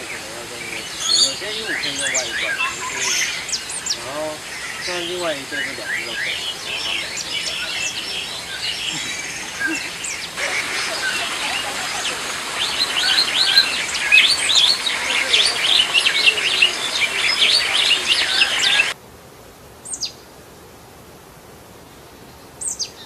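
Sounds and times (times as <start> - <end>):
falling high call notes: 0.0 - 19.0
small birds chirping: 0.0 - 19.0, 22.0 - 23.0.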